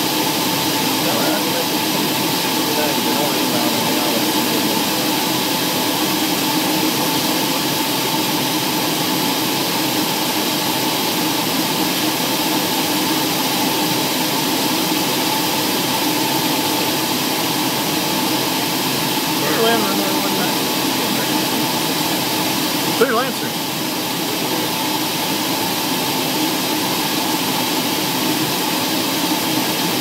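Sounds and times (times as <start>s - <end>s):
aircraft cabin engine drone: 0.0s - 30.0s.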